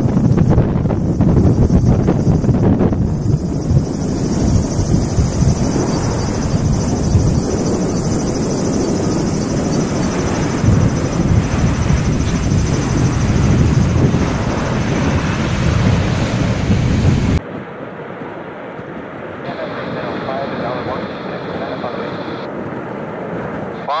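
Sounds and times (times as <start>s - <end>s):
wind buffeting microphone: 0.0s - 23.8s
turboprop airliner noise: 0.0s - 24.0s.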